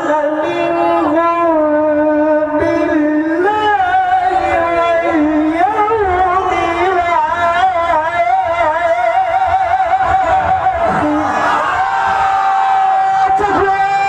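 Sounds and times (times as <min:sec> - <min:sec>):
man reciting melodically: 0:00.0 - 0:11.6, 0:12.9 - 0:14.0.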